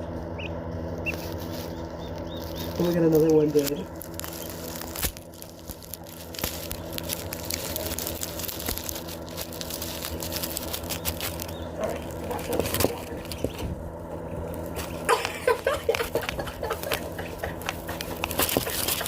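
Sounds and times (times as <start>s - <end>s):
chickens pecking at phone: 0.0s - 19.0s
steady low hum: 0.0s - 19.0s.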